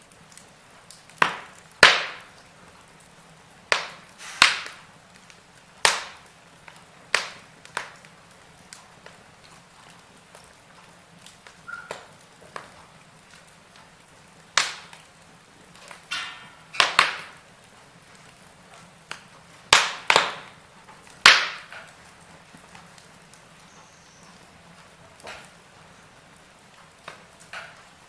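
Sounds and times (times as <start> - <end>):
wood fire crackling: 0.0 - 28.0
sharp pops of fire: 0.1 - 28.0.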